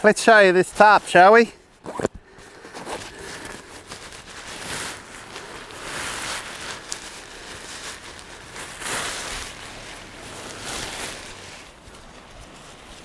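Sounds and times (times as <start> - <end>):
nylon fabric rustling: 0.0 - 13.0.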